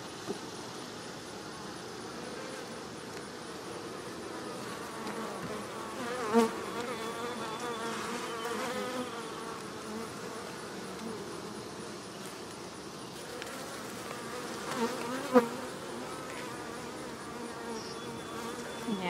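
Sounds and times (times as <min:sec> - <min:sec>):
honey bees buzzing: 0:01.3 - 0:19.0.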